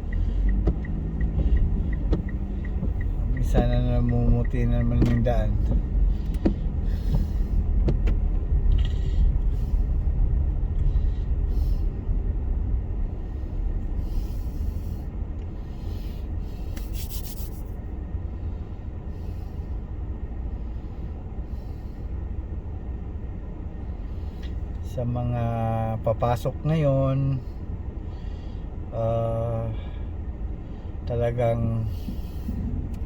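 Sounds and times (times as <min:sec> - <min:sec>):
car tyres and engine rumble: 0:00.0 - 0:33.0.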